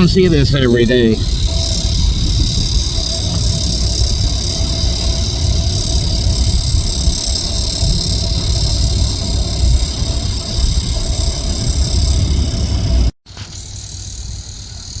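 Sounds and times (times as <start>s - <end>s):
distant machinery rumble: 0.0s - 13.1s
insects buzzing: 0.0s - 15.0s.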